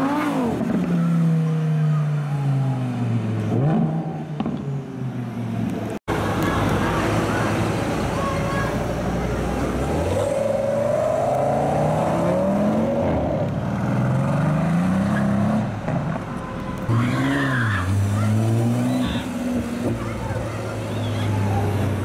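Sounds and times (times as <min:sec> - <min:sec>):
car engines accelerating hard: 0:00.0 - 0:22.0.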